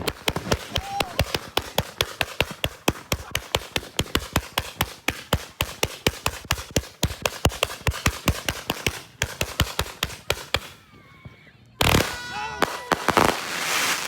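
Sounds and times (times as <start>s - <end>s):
fireworks popping: 0.0s - 14.0s.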